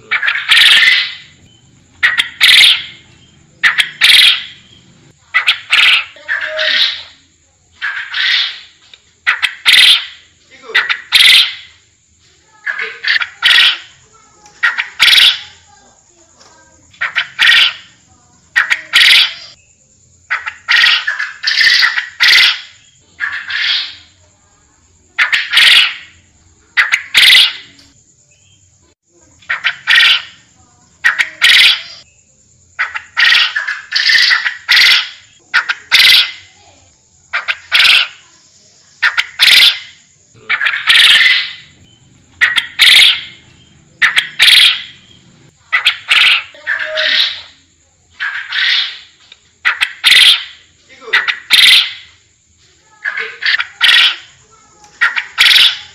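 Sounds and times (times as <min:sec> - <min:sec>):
quail calling: 0:00.0 - 0:11.8, 0:12.6 - 0:15.7, 0:16.9 - 0:19.6, 0:20.3 - 0:24.2, 0:25.2 - 0:28.0, 0:29.4 - 0:32.1, 0:32.8 - 0:36.6, 0:37.3 - 0:38.3, 0:39.0 - 0:52.2, 0:53.0 - 0:55.9.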